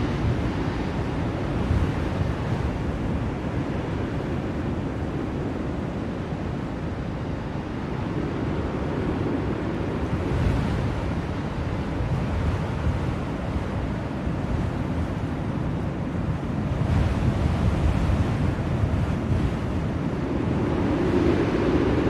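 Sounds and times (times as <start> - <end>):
blizzard wind blowing: 0.0 - 22.0.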